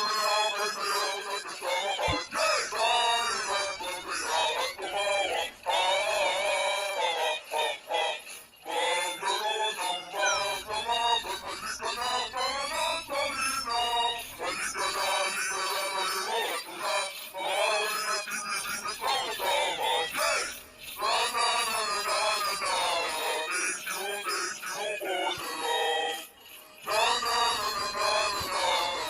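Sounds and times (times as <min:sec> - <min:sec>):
processed synthetic singing voices: 0:00.0 - 0:29.0.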